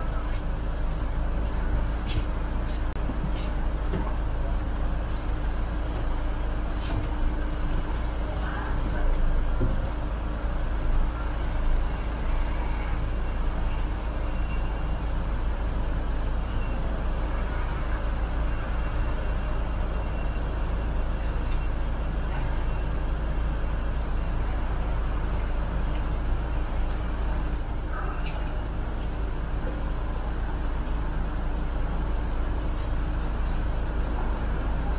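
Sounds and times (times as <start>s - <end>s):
street traffic: 0.0s - 34.9s
tram hum: 0.0s - 34.9s.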